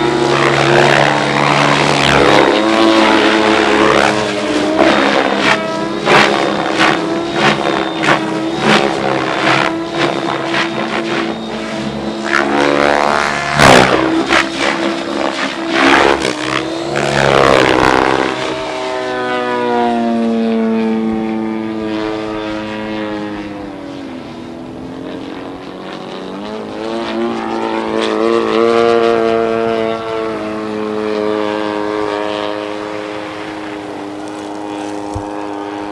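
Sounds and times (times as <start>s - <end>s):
rc helicopter rotor whine: 0.0s - 35.9s.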